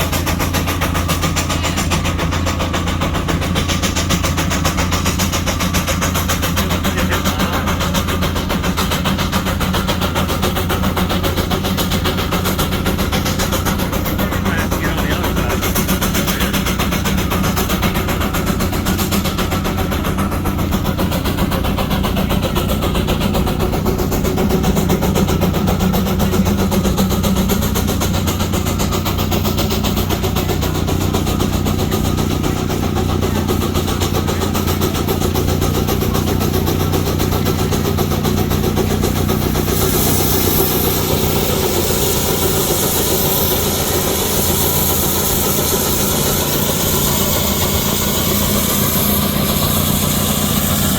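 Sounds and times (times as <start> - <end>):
steam engine droning: 0.0 - 50.9
steam hissing: 0.0 - 50.9.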